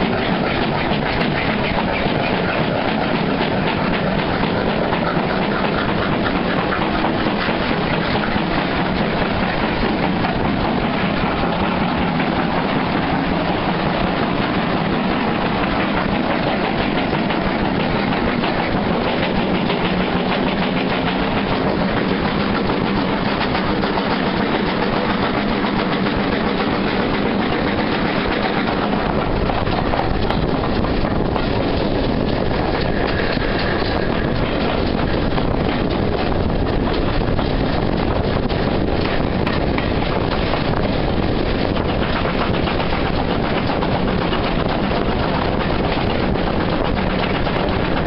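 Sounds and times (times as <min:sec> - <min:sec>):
clickety-clack over rail joints: 0:00.0 - 0:48.0
steam locomotive exhaust: 0:00.0 - 0:48.0
train wheels rumbling on rails: 0:00.0 - 0:48.0.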